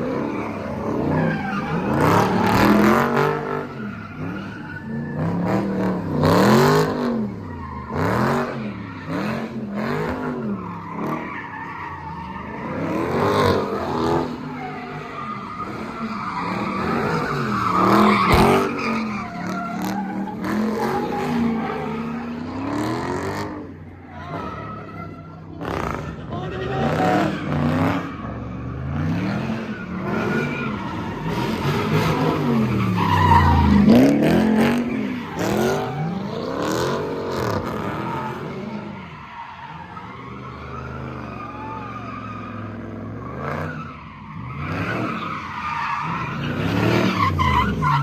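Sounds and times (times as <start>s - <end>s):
car engine revving: 0.0s - 48.0s
tyres squealing and skidding: 0.0s - 48.0s.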